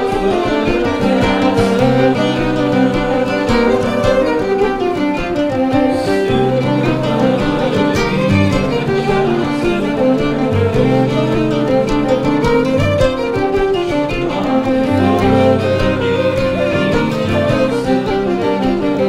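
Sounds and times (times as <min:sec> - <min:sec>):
violins playing fiddle tune: 0:00.0 - 0:19.0.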